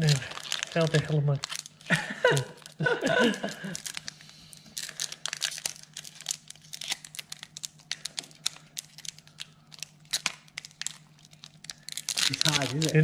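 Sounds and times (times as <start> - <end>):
foil wrapper crinkling: 0.0 - 13.0
wrapper tearing: 0.0 - 13.0.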